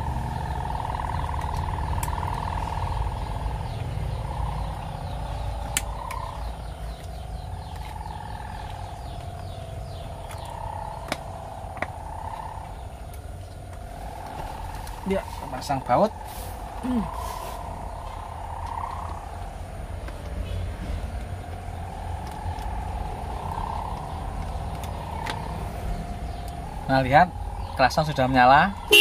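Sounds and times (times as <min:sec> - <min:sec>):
low vehicle rumble: 0:00.0 - 0:29.0
wavering hum: 0:00.0 - 0:29.0.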